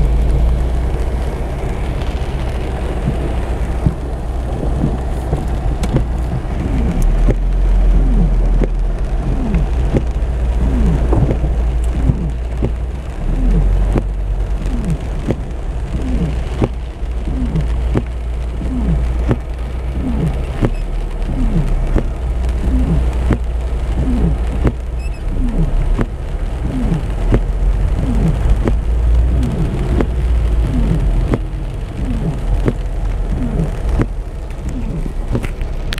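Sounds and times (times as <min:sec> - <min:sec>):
heavy rain on car roof: 0:00.0 - 0:35.9
low rumble: 0:00.0 - 0:35.9.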